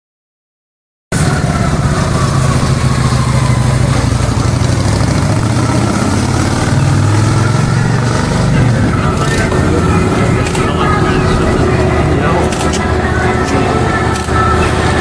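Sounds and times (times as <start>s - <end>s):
motorcycle engine running: 1.2s - 15.0s.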